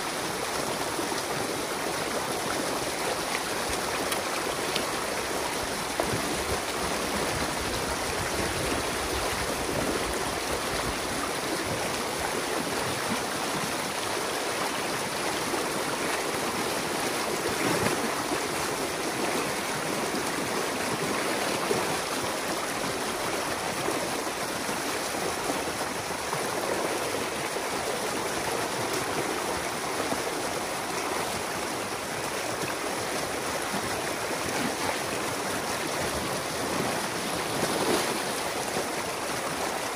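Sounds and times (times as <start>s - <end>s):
stream rushing over mud and sticks: 0.0s - 39.9s.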